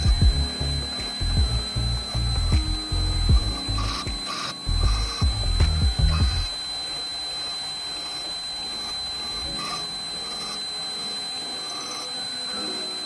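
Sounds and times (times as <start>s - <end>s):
drill bit cutting steel rumble: 0.0s - 13.0s
drill press whining: 0.0s - 13.0s.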